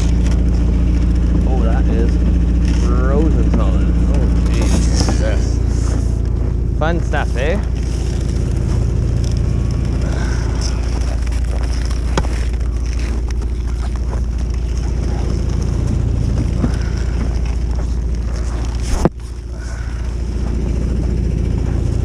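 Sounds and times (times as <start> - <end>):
motor humming steadily: 0.0 - 22.0.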